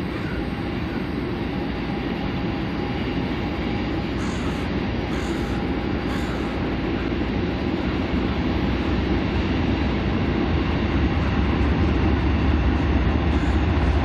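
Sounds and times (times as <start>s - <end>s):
diesel locomotives passing: 0.0s - 14.0s
train wheels rolling on rails: 0.0s - 14.0s.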